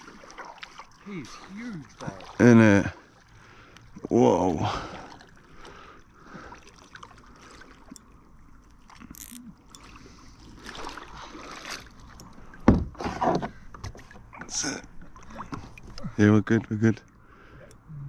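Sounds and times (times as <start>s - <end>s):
water lapping around kayak: 0.0s - 18.0s.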